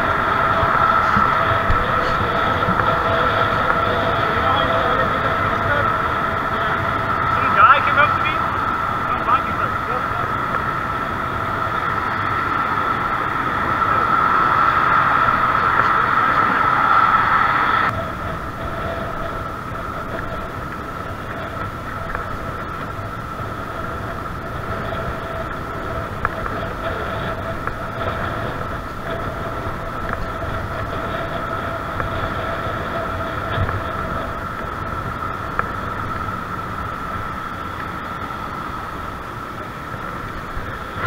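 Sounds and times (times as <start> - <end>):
steady whine: 0.0 - 41.0
wind and tyre rush: 0.0 - 41.0.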